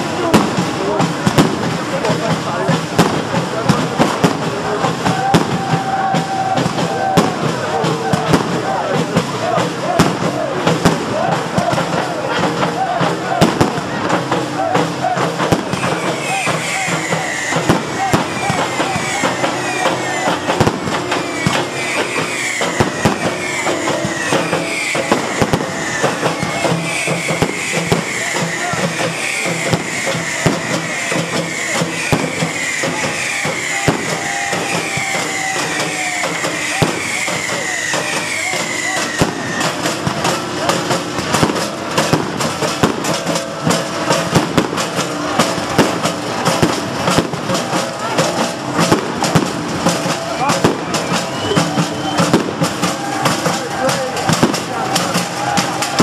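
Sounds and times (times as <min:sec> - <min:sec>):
descending firework whistles: 0:00.0 - 0:56.0
firework bangs and crackles: 0:00.0 - 0:56.0.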